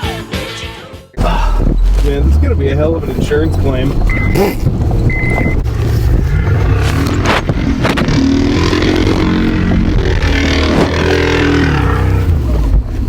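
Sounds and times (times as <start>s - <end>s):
van engine revving: 1.2s - 13.0s.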